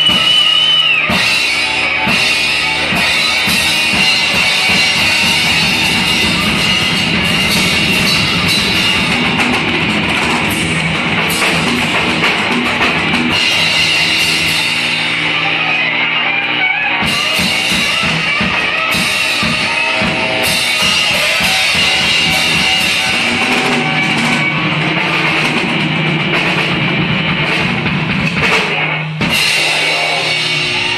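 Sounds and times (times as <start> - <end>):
live rock band playing: 0.0 - 30.9.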